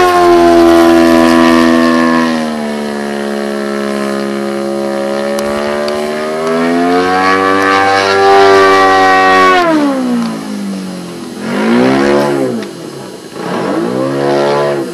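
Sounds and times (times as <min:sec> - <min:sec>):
model aircraft engine revving: 0:00.0 - 0:14.9.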